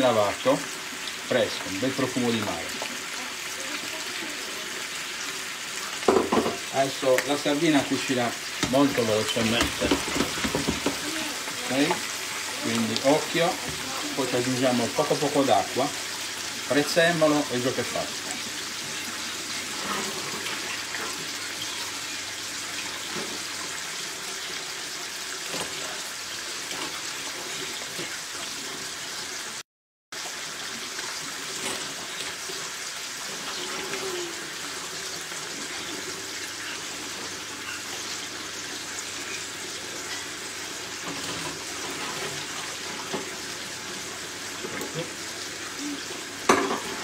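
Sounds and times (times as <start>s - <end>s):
fish sizzling in hot oil: 0.0s - 47.0s.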